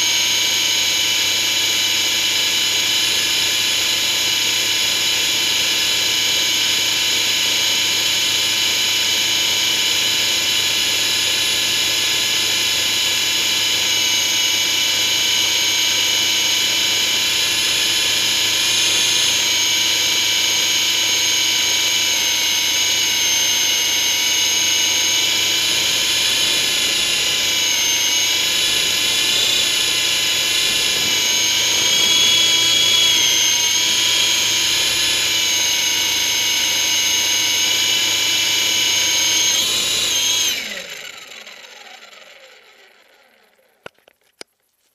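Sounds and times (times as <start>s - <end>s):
rc helicopter motor whine: 0.0s - 44.7s.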